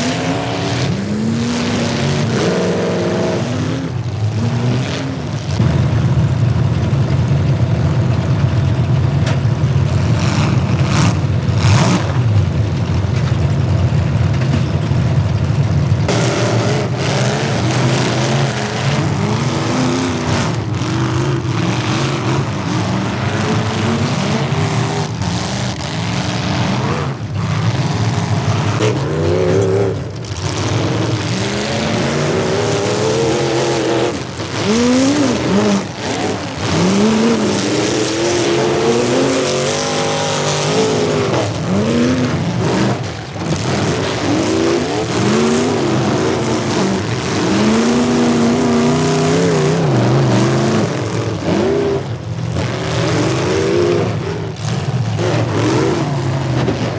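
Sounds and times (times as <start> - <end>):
car engines revving: 0.0 - 56.9
continuous engine drone: 0.0 - 56.9.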